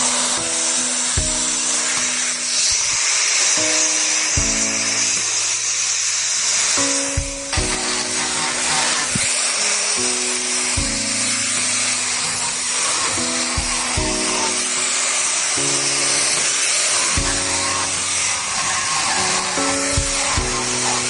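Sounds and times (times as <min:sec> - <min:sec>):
background music: 0:00.0 - 0:21.0
power tool working wood: 0:00.0 - 0:21.0.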